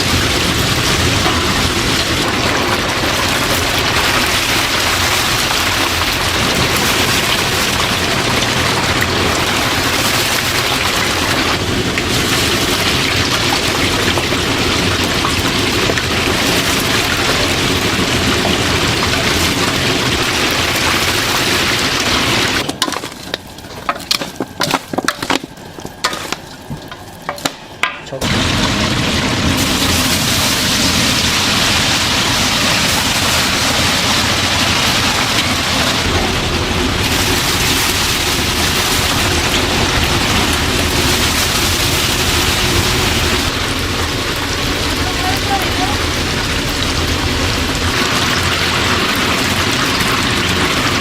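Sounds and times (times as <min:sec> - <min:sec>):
chicken deep-frying in oil: 0:00.0 - 0:51.0
oil crackling and popping: 0:00.0 - 0:51.0.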